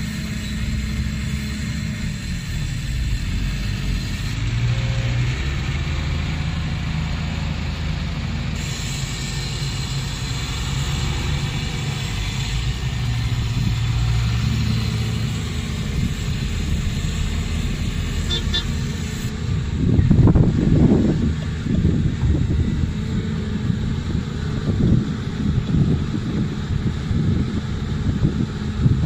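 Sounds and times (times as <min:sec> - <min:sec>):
dump truck rumble: 0:00.0 - 0:29.0
heavy diesel engines running: 0:00.0 - 0:29.0.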